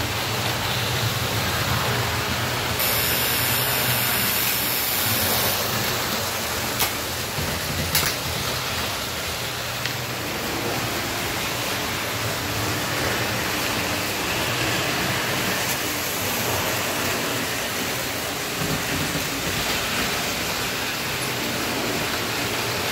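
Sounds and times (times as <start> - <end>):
model trains rumbling and rattling: 0.0 - 22.9.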